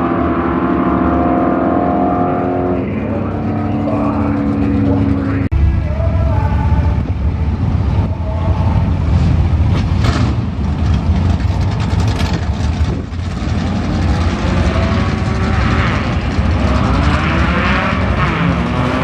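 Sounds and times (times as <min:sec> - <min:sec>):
race car engines idling: 0:01.3 - 0:18.8.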